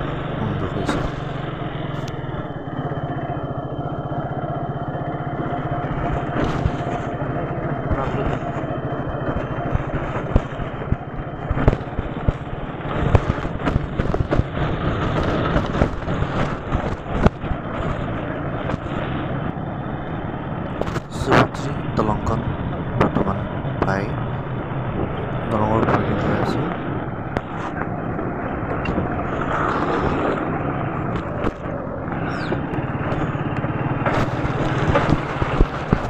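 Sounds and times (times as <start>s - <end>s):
motorcycle engine running: 0.0s - 36.0s
road and wind noise: 0.0s - 36.0s.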